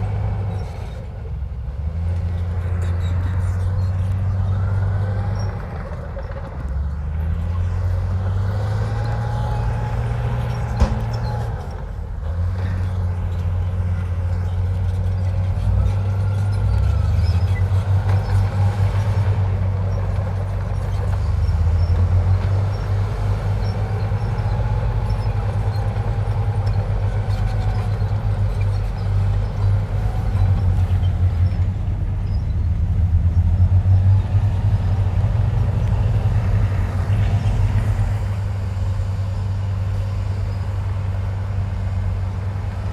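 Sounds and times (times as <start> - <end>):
bulldozer diesel engine drone: 0.0 - 42.9.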